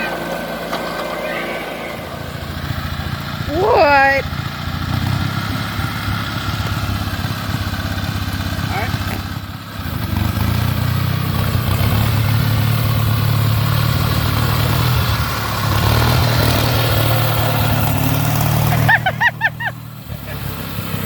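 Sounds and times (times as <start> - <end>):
lawnmower engine running: 0.0 - 21.0.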